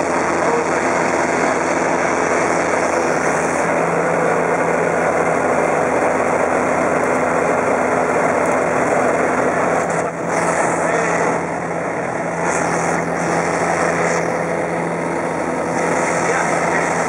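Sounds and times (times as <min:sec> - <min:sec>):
airplane engine and propeller running: 0:00.0 - 0:17.0.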